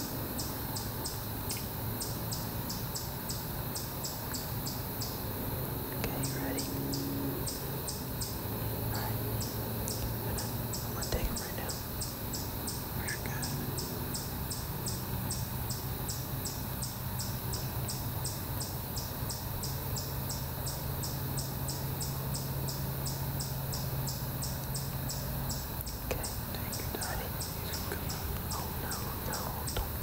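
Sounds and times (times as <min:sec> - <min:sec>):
insects chirping: 0:00.0 - 0:30.0
low background hum: 0:00.0 - 0:30.0.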